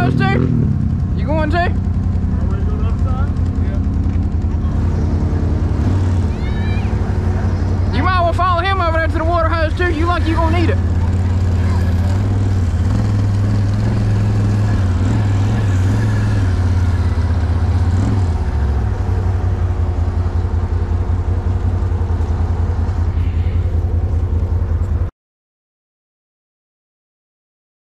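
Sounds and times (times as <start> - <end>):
atv engine idling: 0.0 - 25.1.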